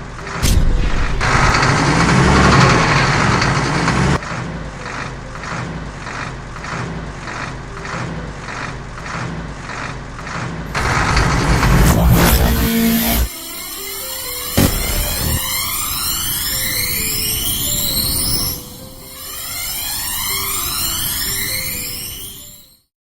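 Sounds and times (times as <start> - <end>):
cartoon truck engine: 1.2 - 22.4.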